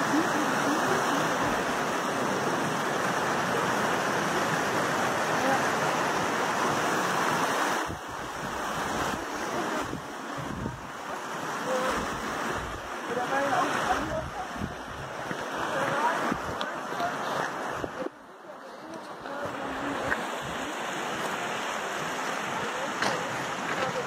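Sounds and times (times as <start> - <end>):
wind gusts on microphone: 0.0 - 18.2, 18.9 - 24.0.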